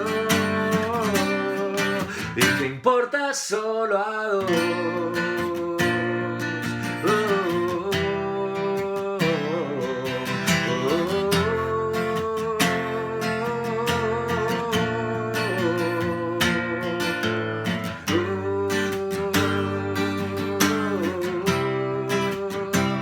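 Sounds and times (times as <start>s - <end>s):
strummed acoustic guitar: 0.0s - 3.2s, 4.4s - 23.0s.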